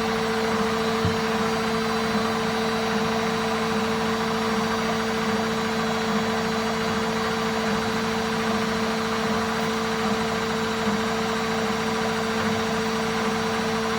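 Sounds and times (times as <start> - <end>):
washing machine spinning: 0.0 - 13.9.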